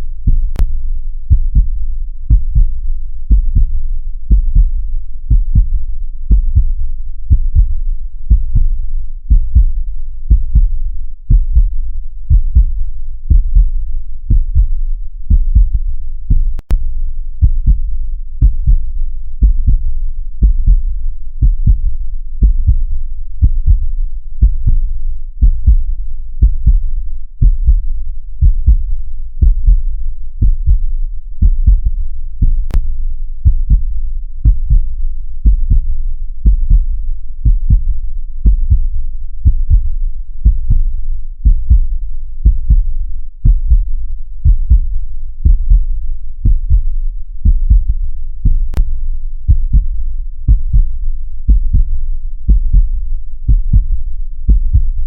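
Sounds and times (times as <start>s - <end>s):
heartbeat: 0.2s - 55.0s.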